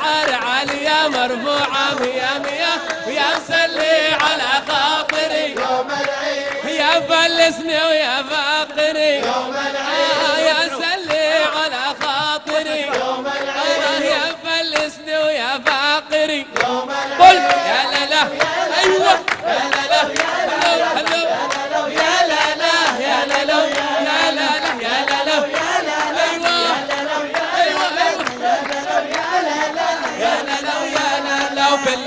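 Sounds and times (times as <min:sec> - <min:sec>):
hand claps: 0:00.0 - 0:07.5, 0:09.1 - 0:32.0
men chanting together: 0:00.0 - 0:32.0.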